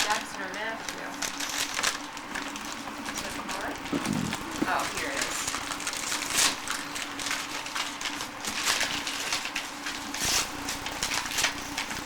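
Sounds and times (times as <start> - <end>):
wrapping paper rustling and tearing: 0.0 - 12.0.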